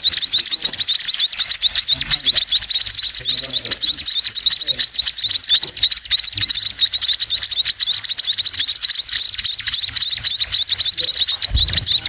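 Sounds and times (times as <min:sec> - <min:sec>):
bird chicks begging chirps: 0:00.0 - 0:12.0.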